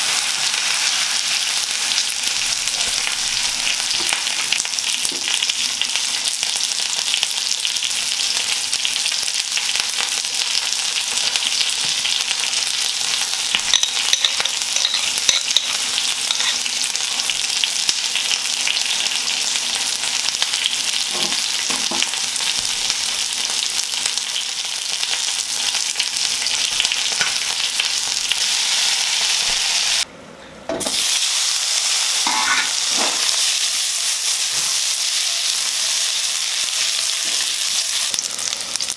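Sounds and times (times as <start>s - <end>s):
food sizzling in a pan: 0.0s - 30.1s, 30.8s - 38.9s.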